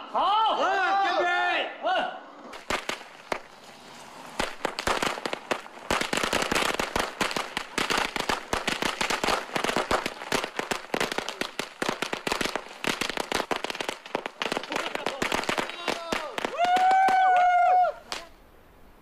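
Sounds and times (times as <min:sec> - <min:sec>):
firecrackers cracking and popping: 0:02.4 - 0:18.4.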